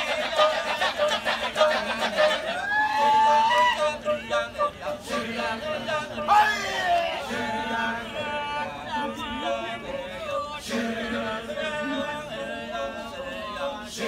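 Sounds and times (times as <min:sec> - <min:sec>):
men chanting in chorus: 0:00.0 - 0:14.0.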